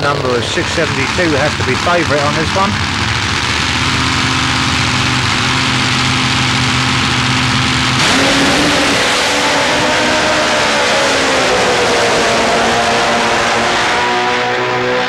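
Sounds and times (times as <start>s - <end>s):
drag motorcycles racing: 0.0s - 15.0s.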